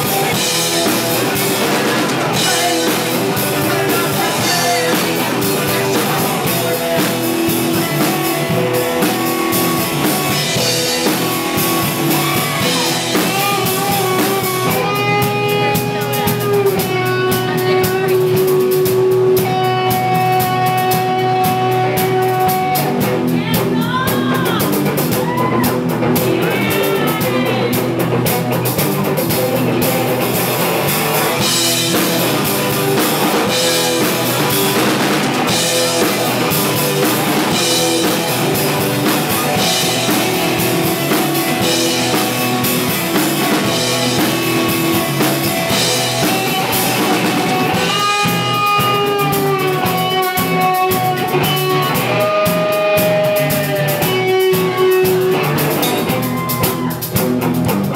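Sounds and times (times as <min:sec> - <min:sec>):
bending melodic guitar notes: 0:00.0 - 0:57.9
drum kit beat: 0:00.0 - 0:57.9
rock band playing live: 0:00.0 - 0:57.9.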